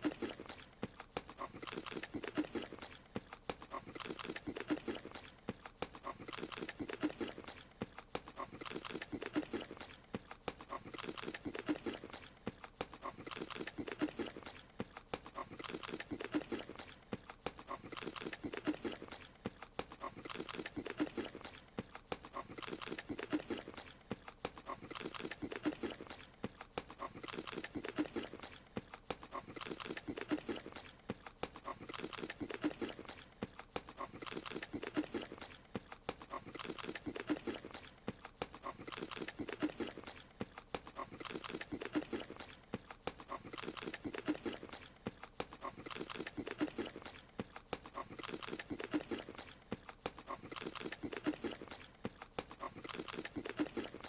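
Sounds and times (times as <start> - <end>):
wet munching and smacking: 0.0 - 54.0.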